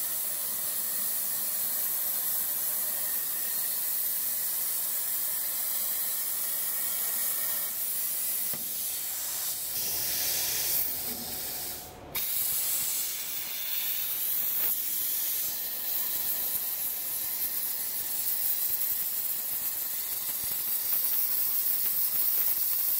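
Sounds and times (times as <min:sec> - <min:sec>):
plasma cutter hissing: 0:00.0 - 0:22.9.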